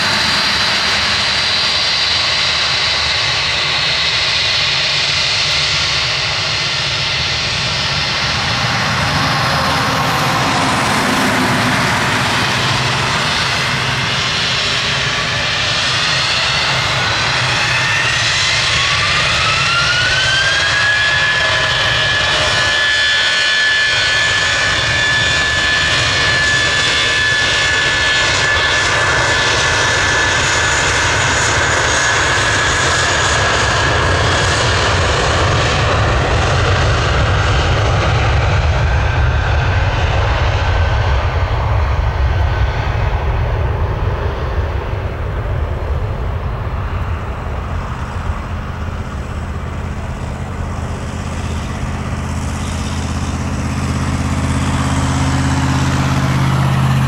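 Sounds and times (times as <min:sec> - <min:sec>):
jet engines whining: 0:00.0 - 0:57.0
low jet rumble: 0:00.0 - 0:57.0.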